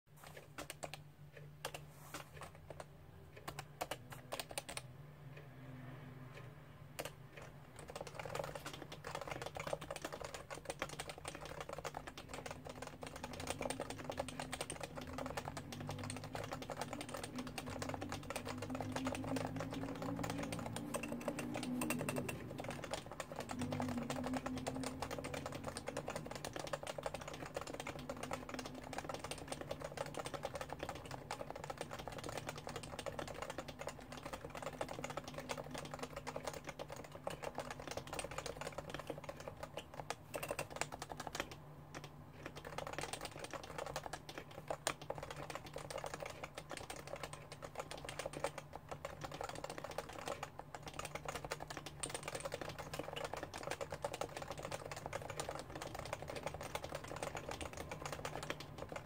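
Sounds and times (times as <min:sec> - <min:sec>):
keyboard typing: 0:00.2 - 0:05.0, 0:06.4 - 0:59.0.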